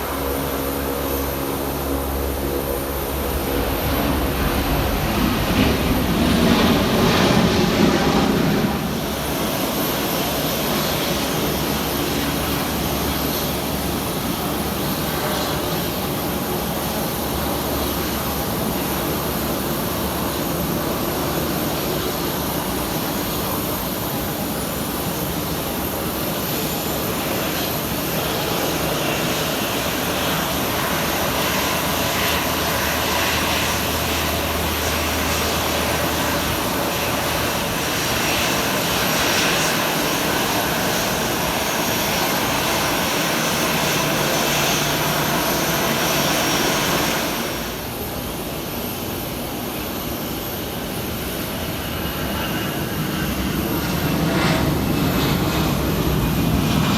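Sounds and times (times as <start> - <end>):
aircraft engines running: 0.0 - 56.9.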